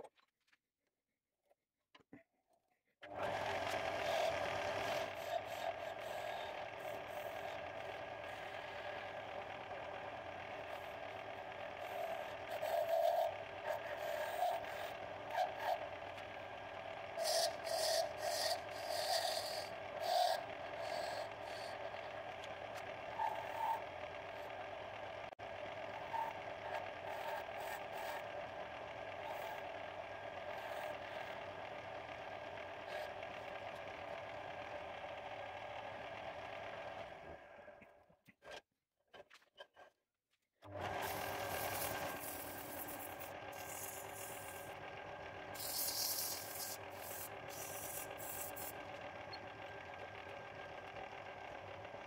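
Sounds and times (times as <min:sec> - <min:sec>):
wood lathe humming: 0:03.0 - 0:37.6, 0:40.7 - 0:52.0
chisel scraping spinning wood: 0:03.6 - 0:34.9, 0:40.7 - 0:51.9.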